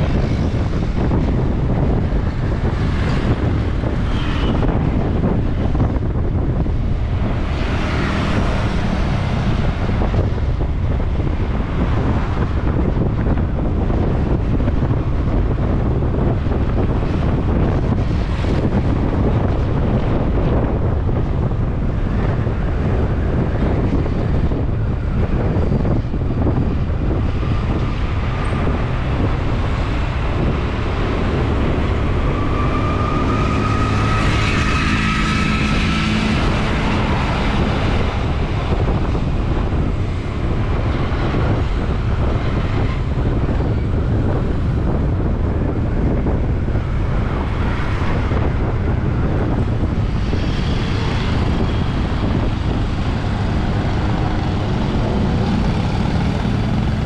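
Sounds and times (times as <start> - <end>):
city traffic noise: 0.0 - 57.0
passing vehicle engine: 0.0 - 57.0
wind buffeting microphone: 0.0 - 57.0.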